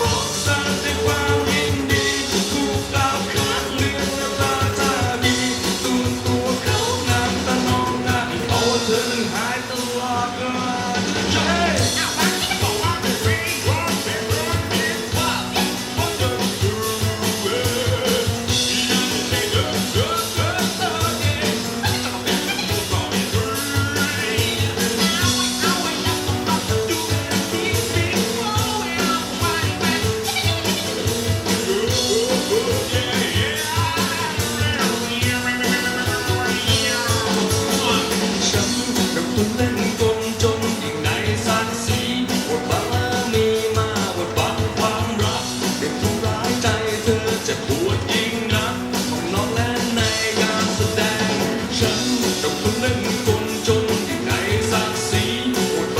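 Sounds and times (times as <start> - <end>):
person singing: 0.0 - 55.9
rock guitar: 0.0 - 55.9
steady drum beat: 0.0 - 55.9.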